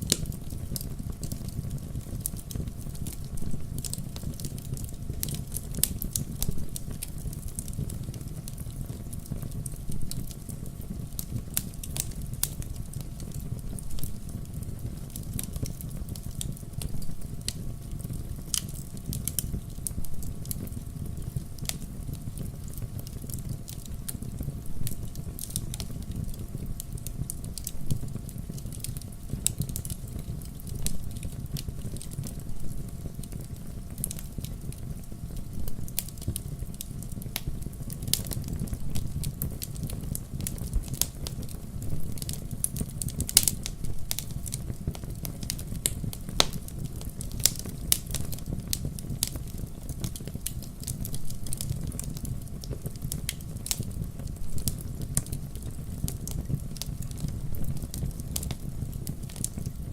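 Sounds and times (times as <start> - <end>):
loud crack of fire: 0.0 - 59.9
low rumble of flame: 0.0 - 59.9
wood fire crackling: 0.0 - 59.9.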